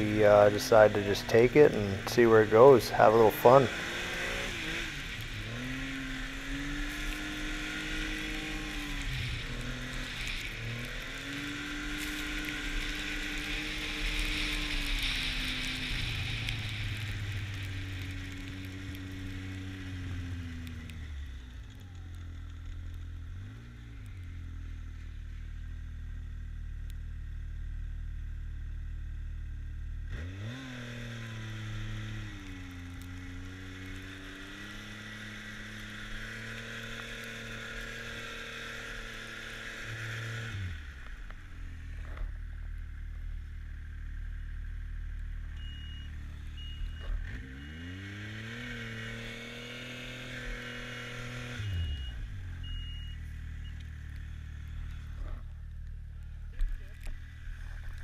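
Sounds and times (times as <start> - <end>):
snowmobile engine revving: 0.0 - 21.9, 30.1 - 42.3, 43.0 - 58.0.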